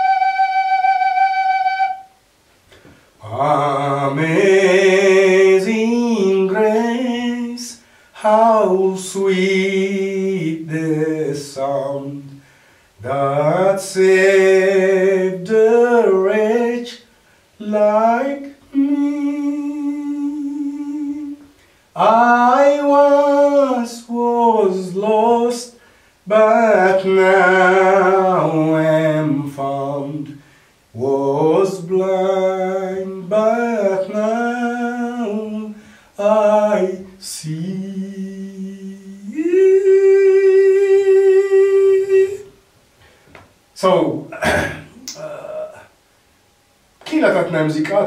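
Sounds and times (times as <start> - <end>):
man singing unaccompanied: 3.2 - 42.6, 43.8 - 45.9, 47.0 - 48.0.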